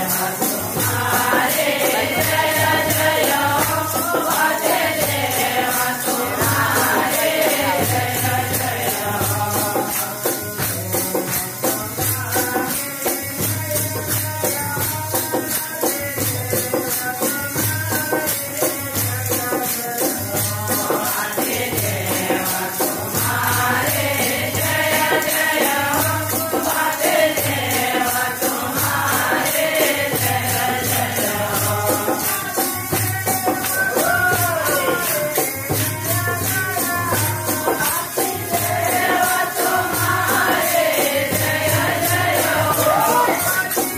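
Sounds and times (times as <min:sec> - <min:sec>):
drum beating: 0:00.0 - 0:43.9
jingling metal percussion: 0:00.0 - 0:43.9
men singing in chorus: 0:00.0 - 0:43.9.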